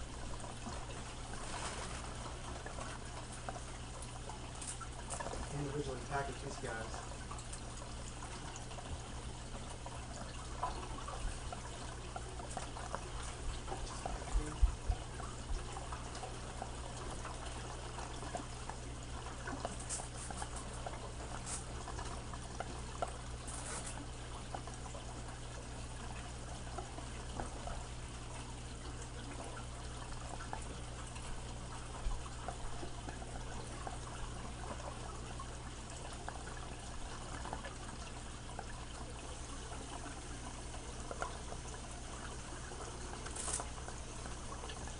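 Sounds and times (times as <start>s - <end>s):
aquarium filter water trickling: 0.0s - 44.9s.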